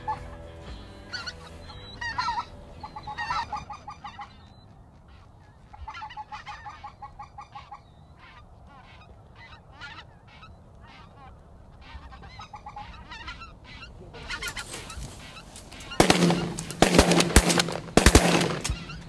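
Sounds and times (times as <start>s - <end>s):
geese yelping calls: 0.0s - 19.0s.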